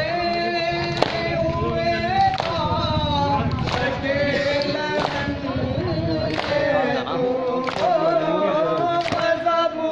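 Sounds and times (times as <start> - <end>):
men chanting: 0.0 - 9.9.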